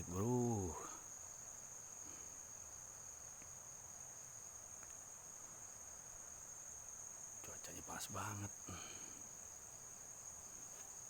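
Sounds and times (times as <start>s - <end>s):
insects calling: 0.0s - 11.0s.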